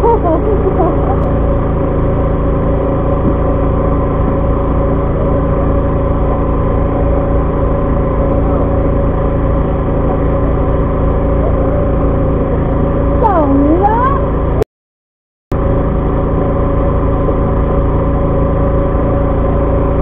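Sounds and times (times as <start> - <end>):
boat engine running: 0.0 - 14.6, 15.5 - 20.0.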